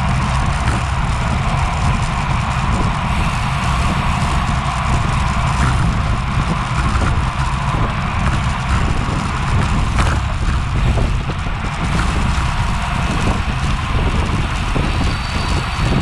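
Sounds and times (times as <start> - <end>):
road and tyre noise: 0.0 - 16.0
wind buffeting microphone: 0.0 - 16.0.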